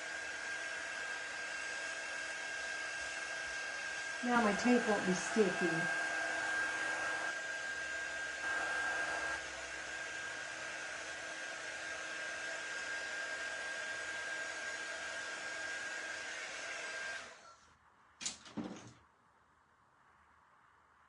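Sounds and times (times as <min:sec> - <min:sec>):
blow dryer whining: 0:00.0 - 0:17.4.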